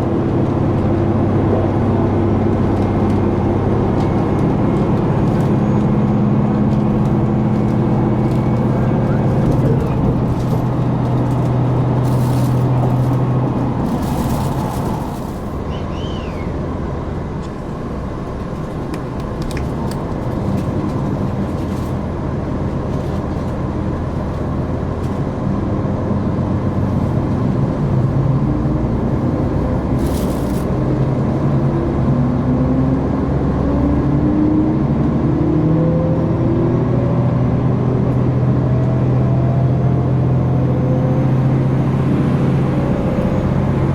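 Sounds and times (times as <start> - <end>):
diesel railcar engine drone: 0.0 - 43.9
rising whine of train: 0.0 - 43.9.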